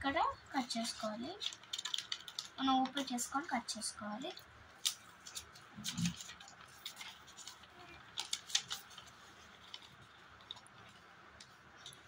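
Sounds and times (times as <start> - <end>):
paper handling: 0.6 - 3.2, 4.2 - 12.0.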